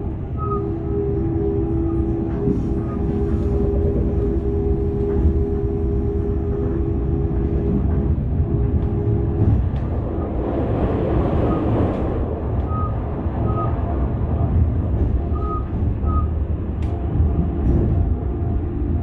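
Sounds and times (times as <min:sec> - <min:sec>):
train carriage rumble: 0:00.0 - 0:19.0.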